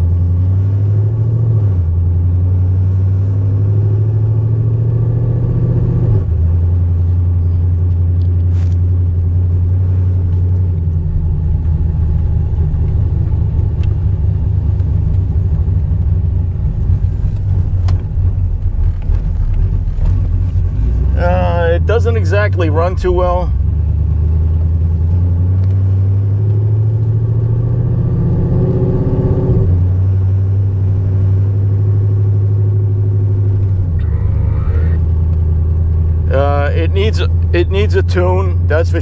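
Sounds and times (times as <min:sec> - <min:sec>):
car engine droning: 0:00.0 - 0:39.0.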